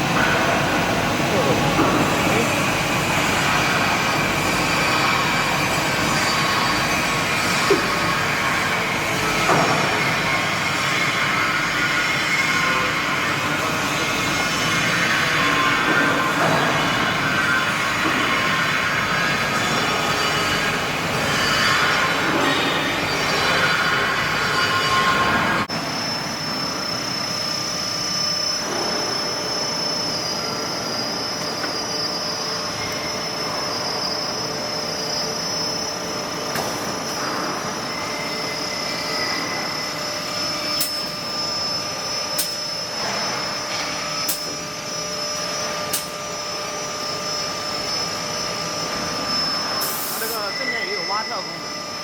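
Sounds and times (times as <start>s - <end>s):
drilling machine whine: 0.0s - 52.0s.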